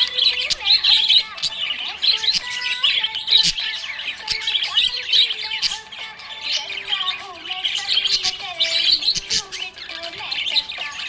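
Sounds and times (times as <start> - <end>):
budgerigars chirping and warbling: 0.0 - 11.0.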